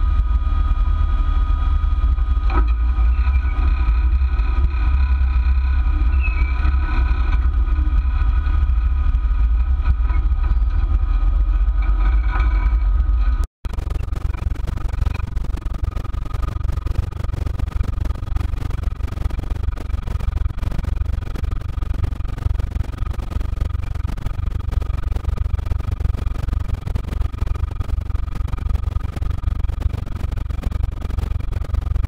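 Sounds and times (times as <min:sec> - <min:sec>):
engine deep rumble: 0:00.0 - 0:32.0.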